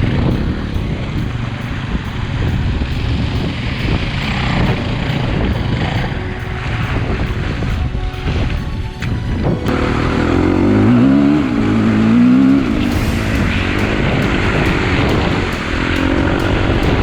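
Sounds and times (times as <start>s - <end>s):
dirt bike engine revving: 0.0s - 8.8s, 9.4s - 17.0s
steady rushing noise: 0.0s - 17.0s.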